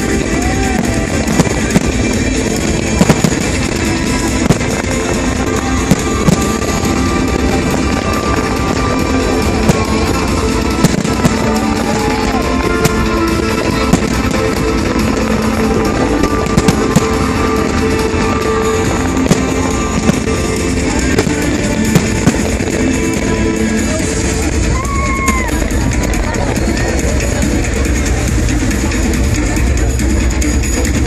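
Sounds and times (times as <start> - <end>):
fireworks bangs and cracks: 0.0 - 31.0
loud music: 0.0 - 31.0.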